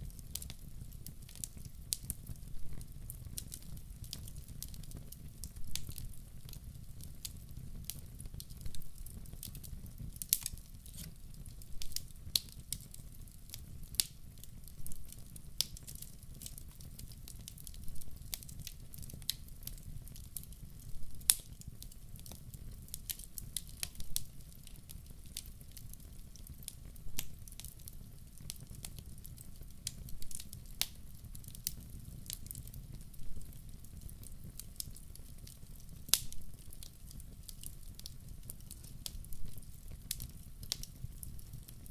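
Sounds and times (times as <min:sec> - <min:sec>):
log fire crackling and popping: 0:00.0 - 0:41.9
low steady fire rumble: 0:00.0 - 0:41.9.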